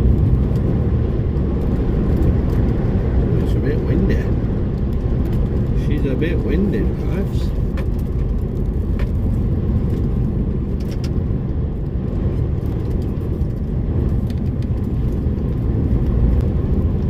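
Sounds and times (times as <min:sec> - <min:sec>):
lorry engine rumble: 0:00.0 - 0:17.0
road noise: 0:00.0 - 0:17.0.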